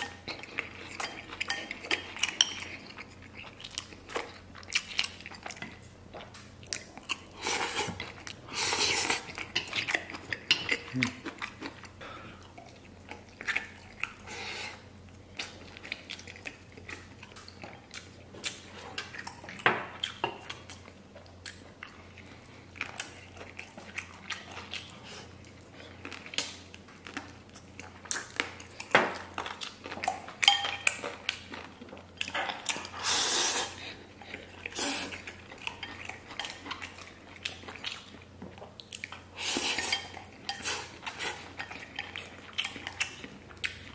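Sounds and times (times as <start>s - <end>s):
wet chewing: 0.0s - 43.9s.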